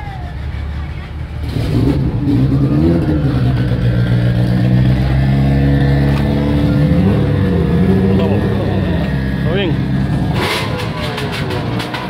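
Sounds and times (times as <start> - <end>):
many car engines revving: 0.0 - 12.0.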